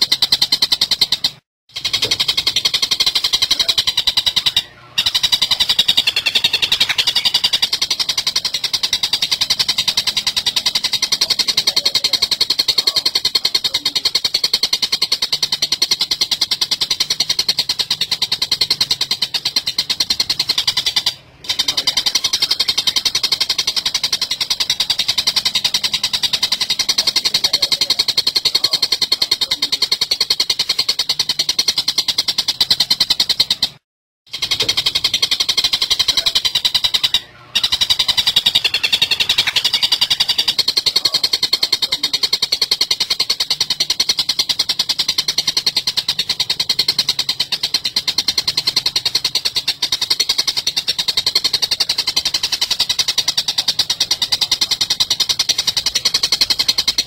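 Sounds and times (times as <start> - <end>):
bird harsh chattering call: 0.0 - 33.6, 34.3 - 57.0.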